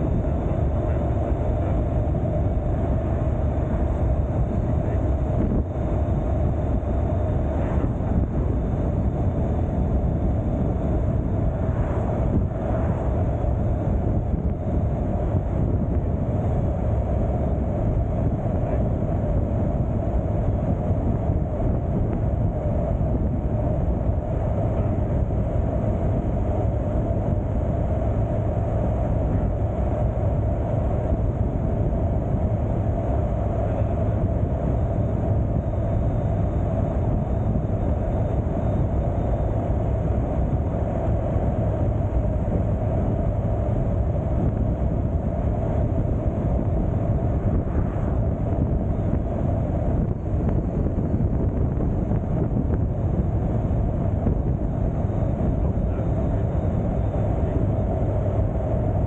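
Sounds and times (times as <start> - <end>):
motorcycle engine drone: 0.0 - 59.0
road and wind noise: 0.0 - 59.0.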